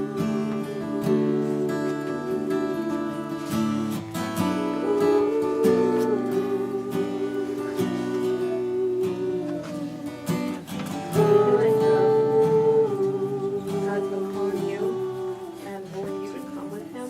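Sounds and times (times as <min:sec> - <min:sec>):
person singing long notes: 0:00.0 - 0:17.0
strummed acoustic guitar: 0:00.0 - 0:17.0.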